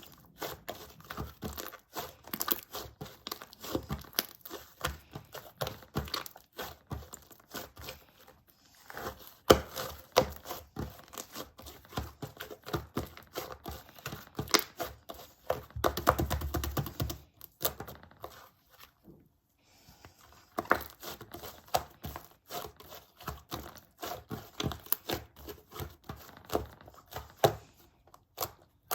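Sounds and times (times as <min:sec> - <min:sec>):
slime being kneaded: 0:00.0 - 0:19.0, 0:20.4 - 0:28.9.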